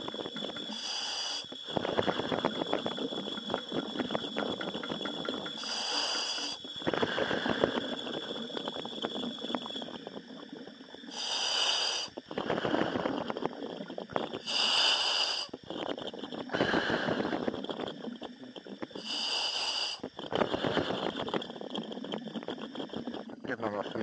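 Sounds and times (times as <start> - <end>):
hissing inhalations through regulator: 0.0 - 23.6
crackling exhalation bubbling: 0.0 - 24.0.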